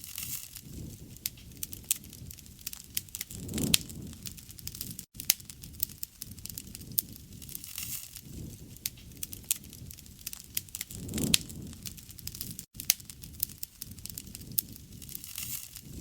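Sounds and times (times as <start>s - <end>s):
bonfire crackling and popping: 0.0s - 16.0s
low rumble of burning: 0.0s - 16.0s.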